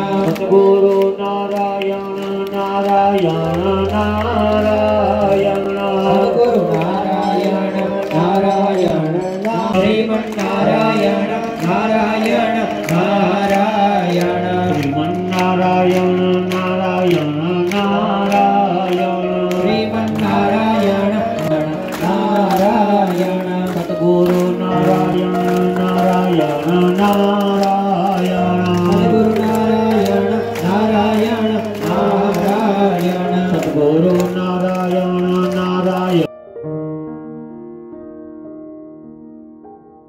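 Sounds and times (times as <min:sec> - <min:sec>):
devotional chanting: 0:00.0 - 0:36.3.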